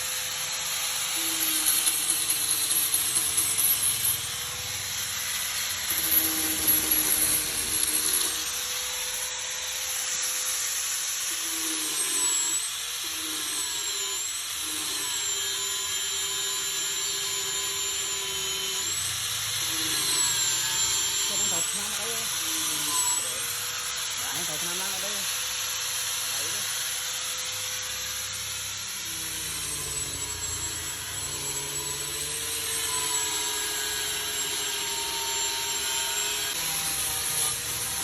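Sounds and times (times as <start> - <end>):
small power tool running: 0.0 - 38.0.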